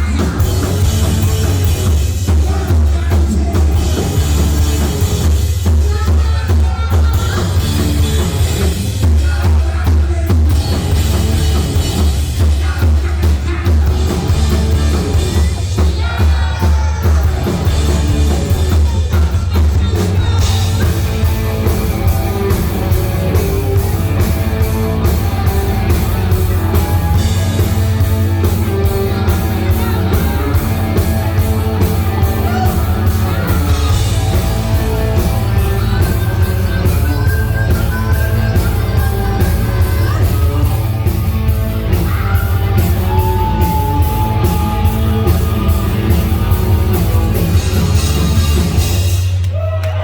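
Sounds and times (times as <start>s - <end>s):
live hard rock band: 0.0s - 50.0s.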